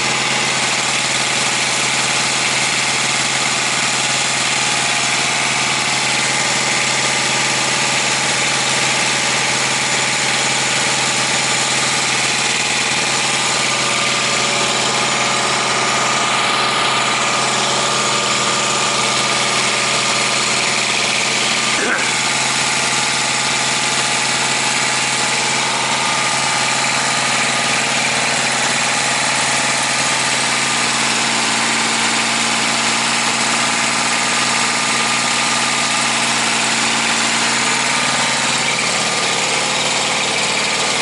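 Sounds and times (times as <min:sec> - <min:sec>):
small diesel engine idling: 0:00.0 - 0:41.0.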